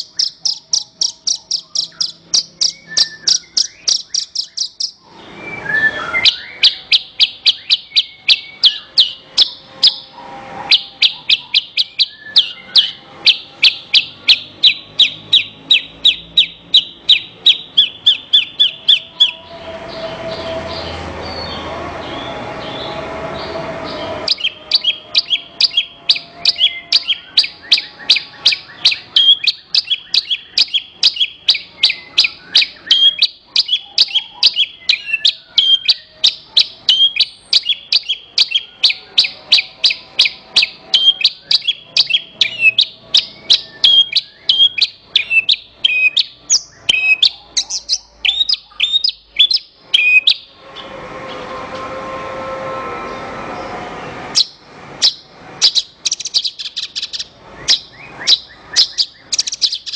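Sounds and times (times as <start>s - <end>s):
lark singing high chirps: 0.0s - 20.1s, 24.2s - 50.6s, 54.4s - 59.9s.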